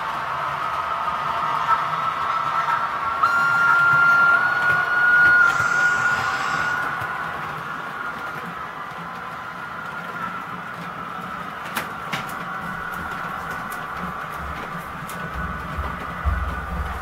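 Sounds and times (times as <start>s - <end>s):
model train motor whine: 1.3s - 17.0s
wheels clicking over rail joints: 2.7s - 17.0s.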